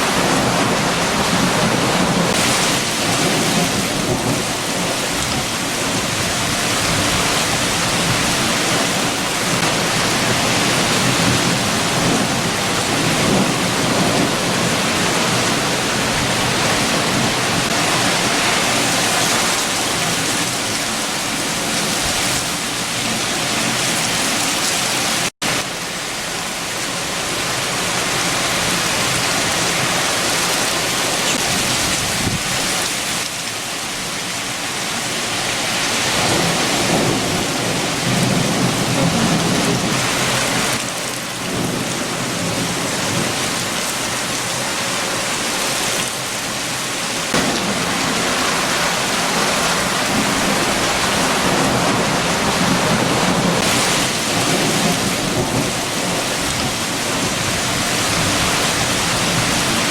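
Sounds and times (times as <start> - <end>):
heavy rain: 0.0 - 59.9
strong wind: 0.0 - 59.9.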